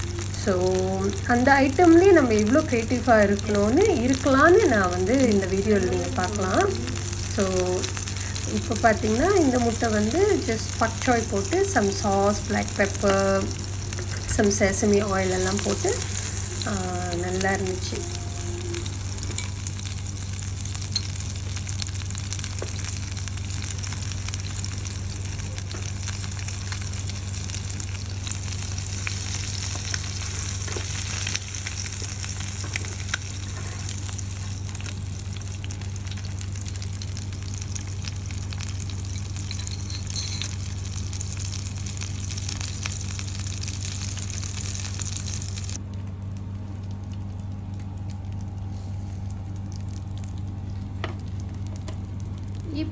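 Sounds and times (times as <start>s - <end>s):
omelette sizzling on grill pan: 0.0s - 45.8s
low hum: 0.0s - 52.9s.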